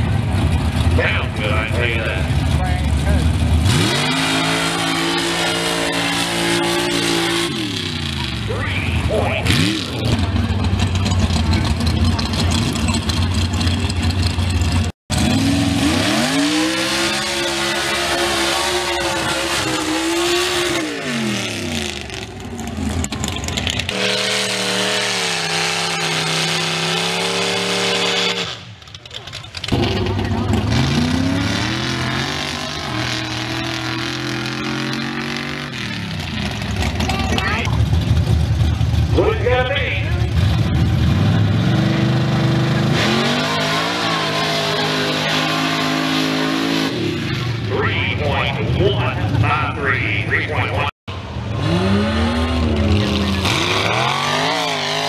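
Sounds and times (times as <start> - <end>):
car engine churning through mud: 0.0 - 50.2, 51.1 - 55.0
race engine revving: 0.0 - 55.0.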